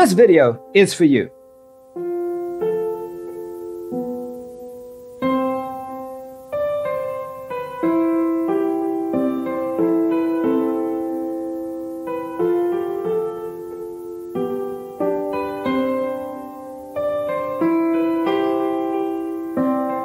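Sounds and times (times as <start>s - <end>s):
slow piano chords and notes: 0.0s - 20.0s.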